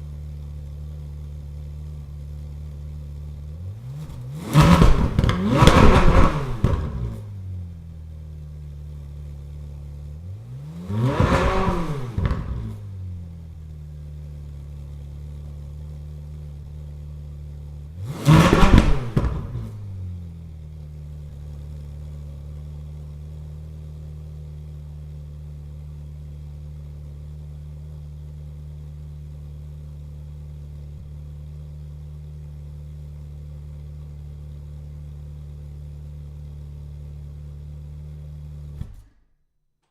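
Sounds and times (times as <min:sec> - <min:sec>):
sports car engine idling and revving: 0:00.0 - 0:39.3.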